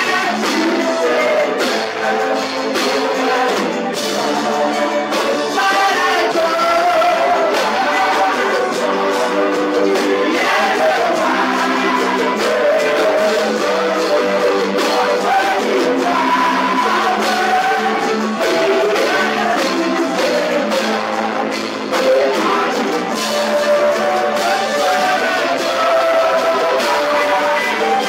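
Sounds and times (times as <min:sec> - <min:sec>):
group singing gospel song: 0:00.0 - 0:28.0
instrumental accompaniment: 0:00.0 - 0:28.0.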